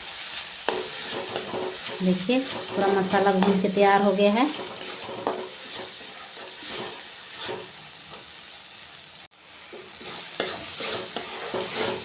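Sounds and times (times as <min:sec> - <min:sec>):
spoon scraping pan: 0:00.0 - 0:08.4, 0:09.7 - 0:12.0
masala sizzling in oil: 0:00.0 - 0:12.0.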